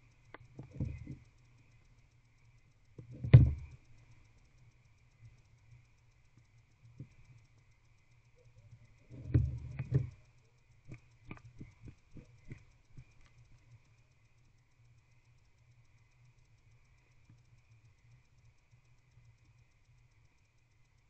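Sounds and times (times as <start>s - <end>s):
small sharp clicks: 0.0s - 19.1s.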